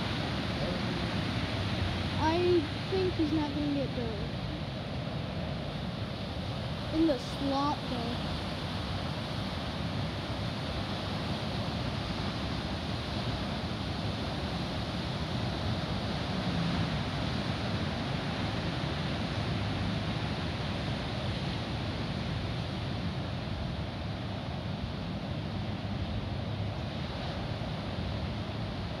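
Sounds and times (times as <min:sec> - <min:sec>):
ocean surf breaking: 0:00.0 - 0:29.0.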